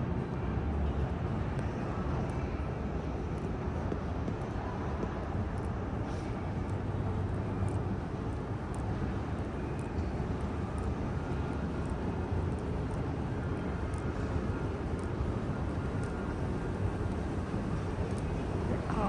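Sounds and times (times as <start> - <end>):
vehicle rumble and hiss: 0.0 - 19.0.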